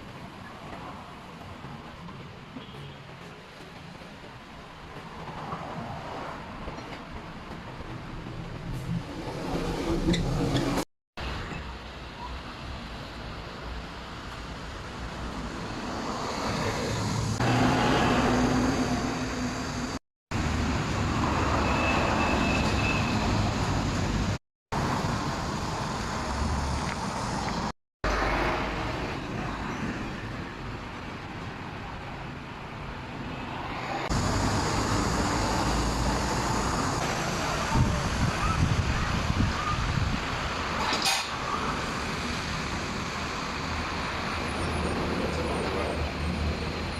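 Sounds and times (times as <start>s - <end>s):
road traffic noise: 0.0s - 46.9s.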